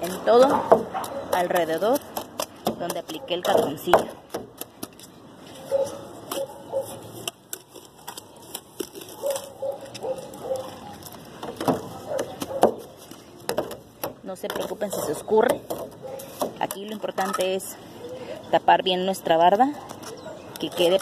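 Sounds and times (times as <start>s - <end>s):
trowel slapping and scraping mortar: 0.0s - 17.7s.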